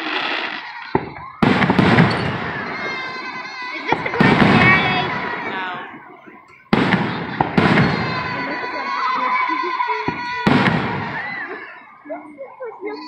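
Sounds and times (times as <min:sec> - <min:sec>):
fireworks bangs: 0:00.0 - 0:13.0
fireworks rumble: 0:00.0 - 0:13.0.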